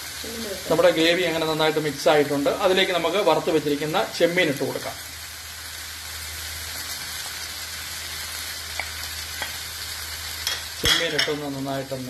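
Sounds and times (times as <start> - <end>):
gravy sizzling in a frying pan: 0.0 - 12.0.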